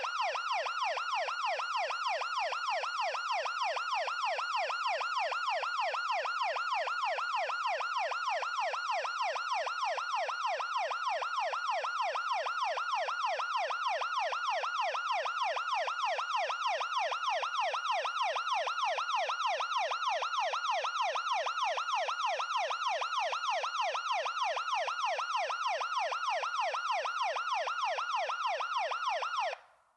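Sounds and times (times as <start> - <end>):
ambulance siren yelping: 0.0 - 29.6.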